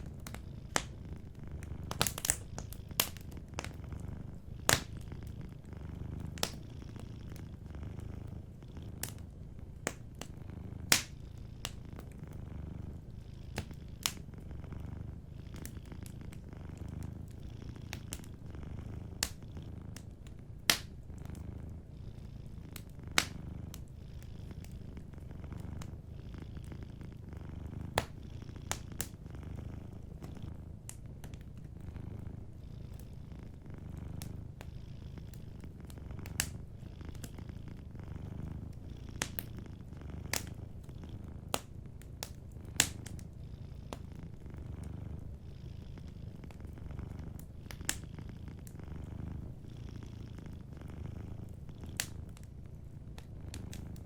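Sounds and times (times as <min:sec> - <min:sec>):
cat purring: 0:00.0 - 0:54.0
wood fire crackling: 0:00.0 - 0:54.0.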